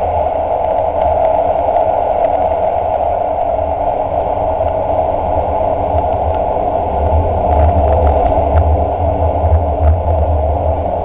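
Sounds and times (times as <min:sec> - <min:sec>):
train running noise with rumble: 0:00.0 - 0:11.0.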